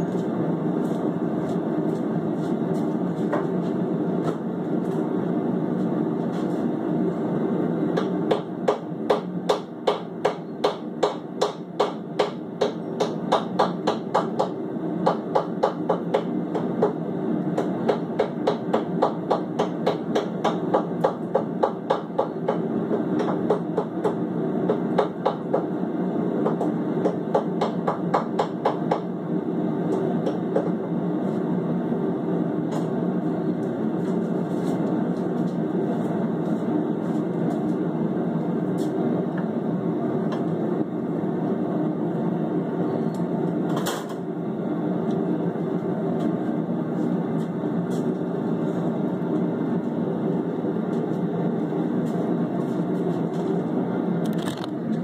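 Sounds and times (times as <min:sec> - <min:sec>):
gas forge roaring: 0:00.0 - 0:55.0.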